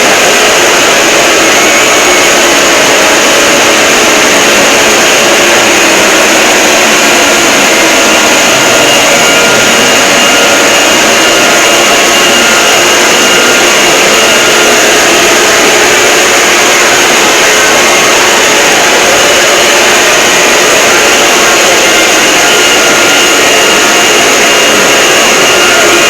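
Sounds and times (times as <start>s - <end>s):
extremely loud distorted noise: 0.0s - 26.0s.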